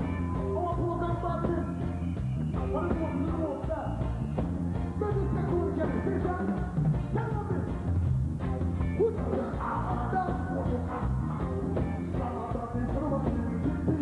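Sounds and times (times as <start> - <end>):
band playing bass-heavy reggae: 0.0 - 14.0.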